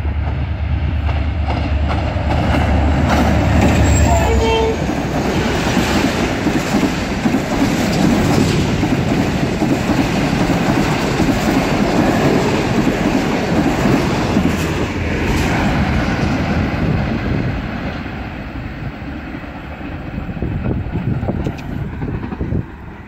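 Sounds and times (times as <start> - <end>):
train wheels running on rails: 0.0 - 23.0.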